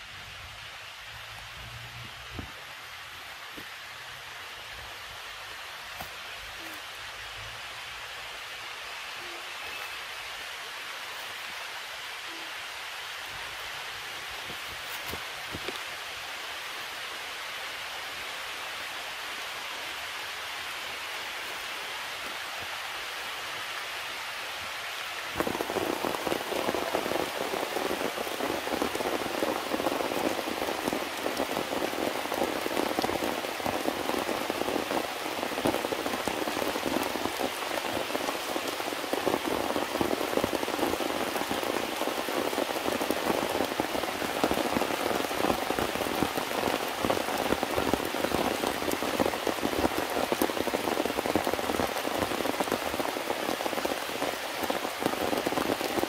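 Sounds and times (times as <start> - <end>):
heavy rain pattering: 0.0 - 56.0
soft hiss: 0.0 - 56.0.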